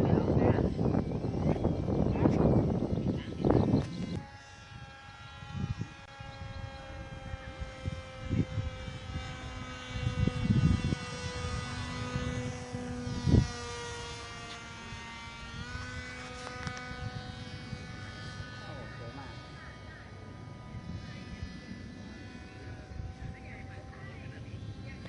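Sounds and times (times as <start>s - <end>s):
model aircraft motor buzzing: 0.0s - 25.0s.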